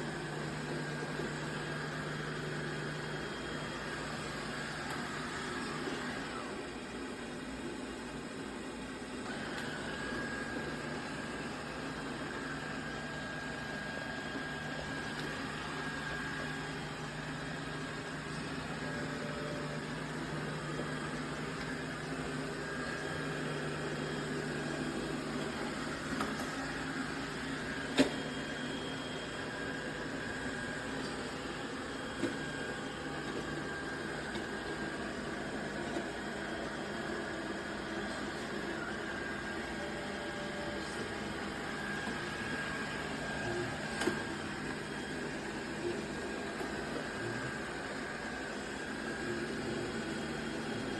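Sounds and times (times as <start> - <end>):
robot vacuum motor humming: 9.2 - 50.9.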